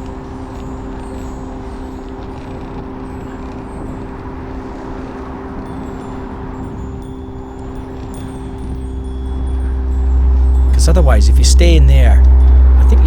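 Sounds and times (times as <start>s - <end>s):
low engine hum: 0.0s - 13.0s
road traffic noise: 0.0s - 13.0s.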